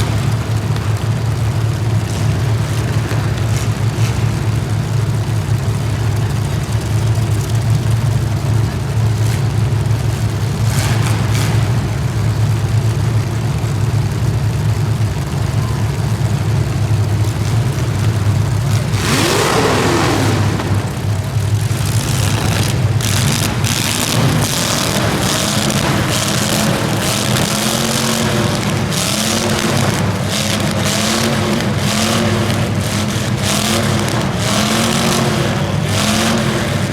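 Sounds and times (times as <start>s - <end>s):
racing engines running: 0.0s - 36.9s.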